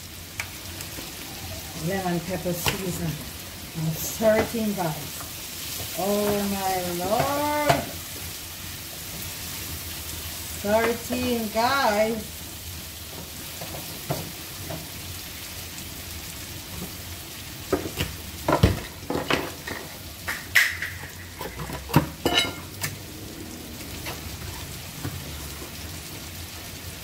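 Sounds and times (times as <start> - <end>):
vegetables sizzling in a frying pan: 0.0 - 27.0.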